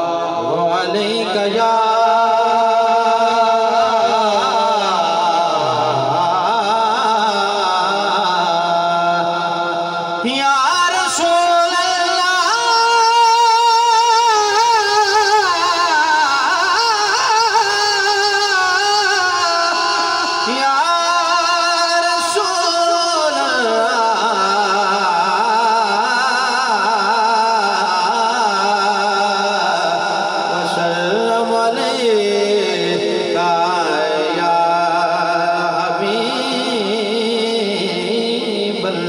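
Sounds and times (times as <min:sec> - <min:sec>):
man singing long held notes: 0:00.0 - 0:39.0.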